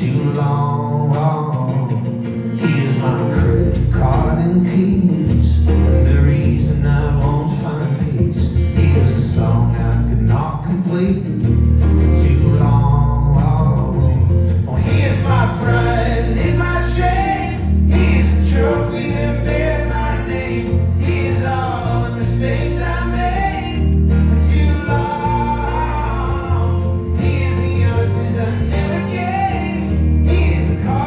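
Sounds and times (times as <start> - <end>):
male voice singing: 0.0 - 11.4, 12.0 - 31.0
guitar: 0.0 - 31.0
heavy pulsing bass: 3.4 - 10.6, 11.4 - 31.0.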